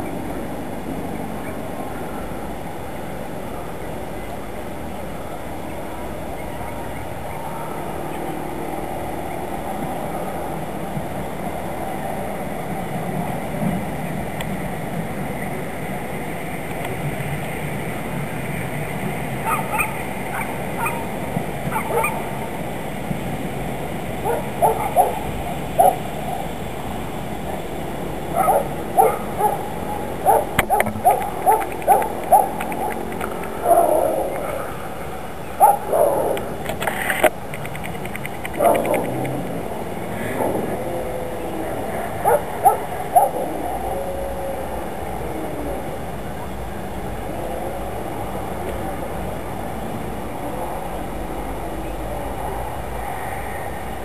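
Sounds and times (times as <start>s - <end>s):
train rolling rumble: 0.0s - 54.0s.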